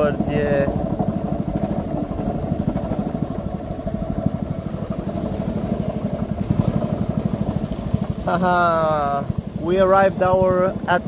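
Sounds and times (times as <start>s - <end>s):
boat engine puttering: 0.0s - 11.0s.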